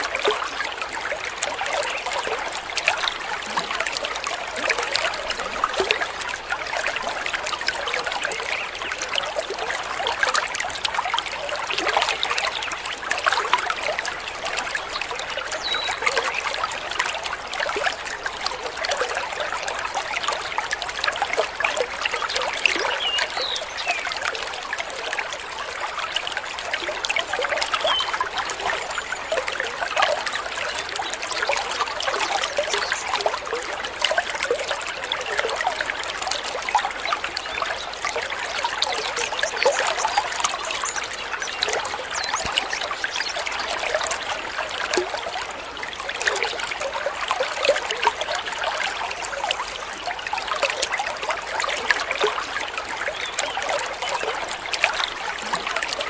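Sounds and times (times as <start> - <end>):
stream trickling and babbling: 0.0 - 56.0.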